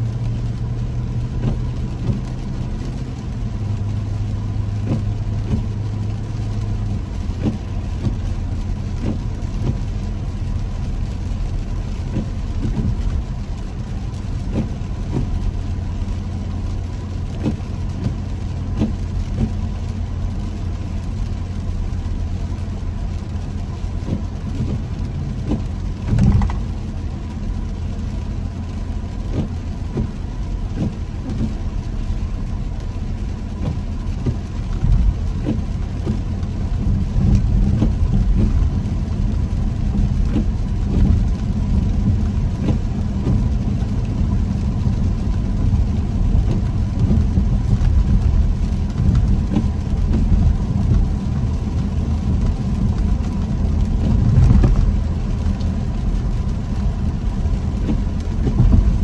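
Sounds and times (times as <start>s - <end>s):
faint rain ticks: 0.0s - 59.0s
road rumble and tyre noise: 0.0s - 59.0s.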